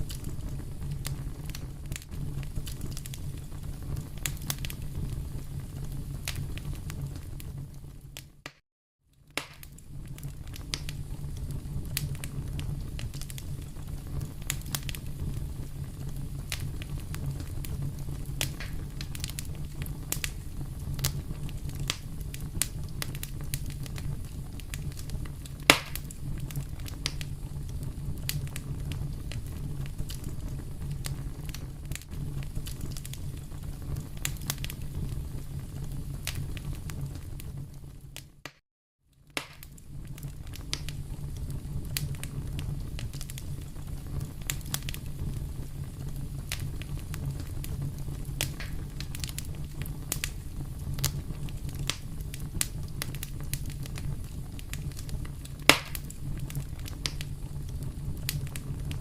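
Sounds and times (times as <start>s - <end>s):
low rumble of fire: 0.0s - 8.5s, 9.1s - 59.0s
fireplace fire crackling: 0.0s - 59.0s.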